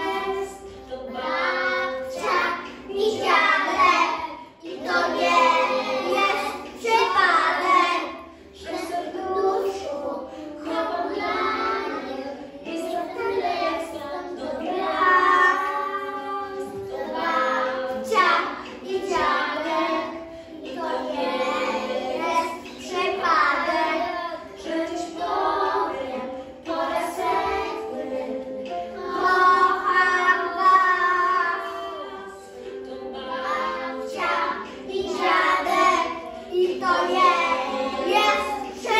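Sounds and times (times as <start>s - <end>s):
children singing together: 0.0s - 38.9s.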